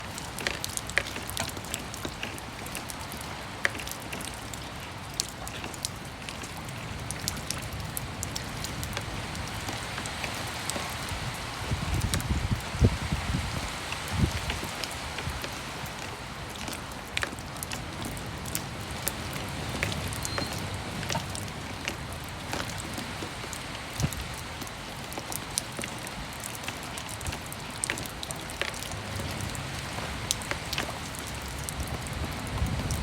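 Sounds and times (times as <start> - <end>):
rain falling on a roof: 0.0 - 33.0.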